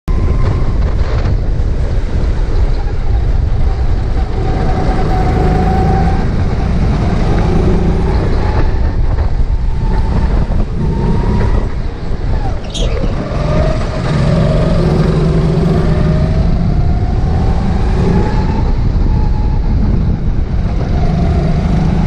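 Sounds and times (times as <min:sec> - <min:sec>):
go-kart engine: 0:00.1 - 0:22.0
wind buffeting microphone: 0:00.1 - 0:22.0.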